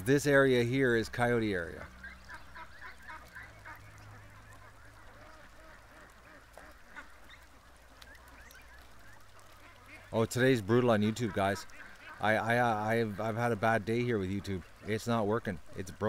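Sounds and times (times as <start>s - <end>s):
ducks and geese calling: 0.0s - 16.0s.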